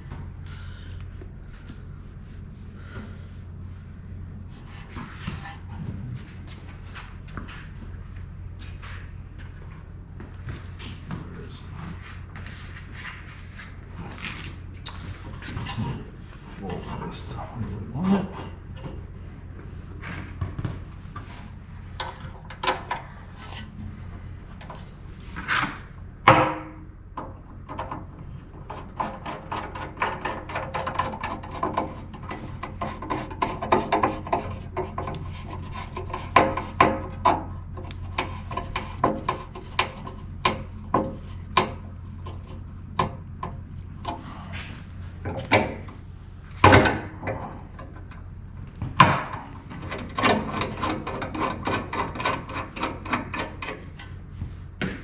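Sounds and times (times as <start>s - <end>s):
wire rubbing and scraping: 1.4s - 7.7s, 10.5s - 26.0s, 27.9s - 54.8s.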